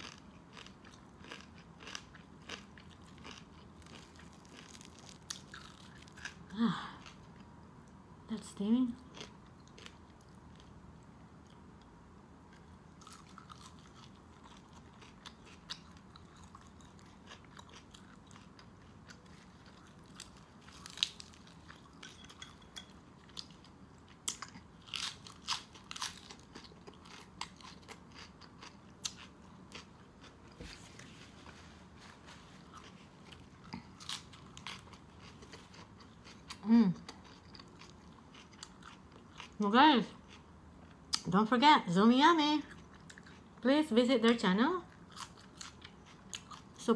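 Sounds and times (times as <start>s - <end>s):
chewing and crunching food: 0.0s - 8.0s, 8.9s - 41.4s, 42.3s - 46.9s.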